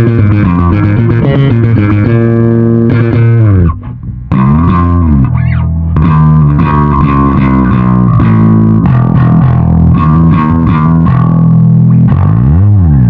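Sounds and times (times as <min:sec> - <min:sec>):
electric bass sustained notes: 0:00.0 - 0:13.0.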